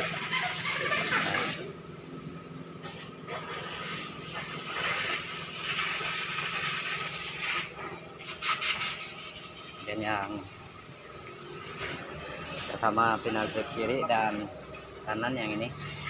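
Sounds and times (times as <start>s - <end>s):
steady hiss: 0.1s - 16.0s.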